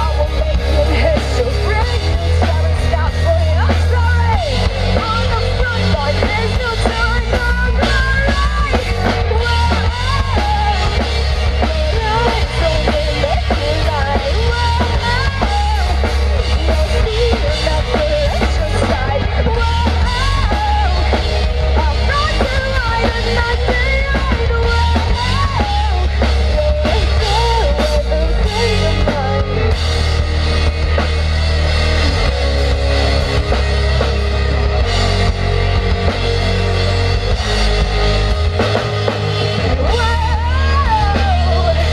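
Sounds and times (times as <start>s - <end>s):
drum kit: 0.0s - 41.9s
electric guitar: 0.0s - 41.9s
heavy bass: 0.0s - 41.9s.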